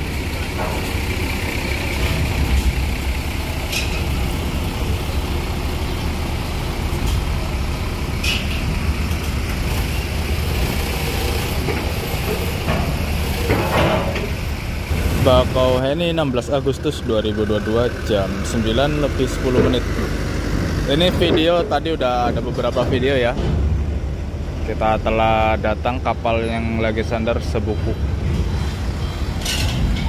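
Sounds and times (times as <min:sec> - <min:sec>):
bus diesel engine rumbling: 0:00.0 - 0:30.0.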